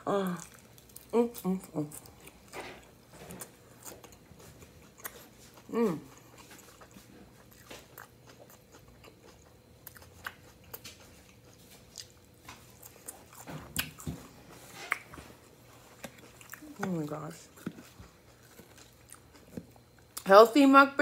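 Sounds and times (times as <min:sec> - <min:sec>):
wet chewing: 0:00.3 - 0:20.3.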